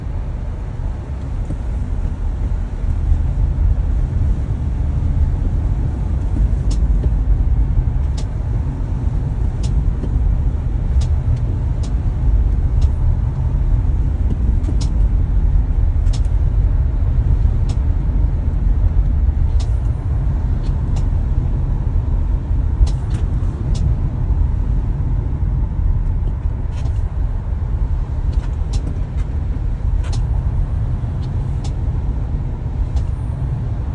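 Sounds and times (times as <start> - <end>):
road rumble: 0.0 - 33.9.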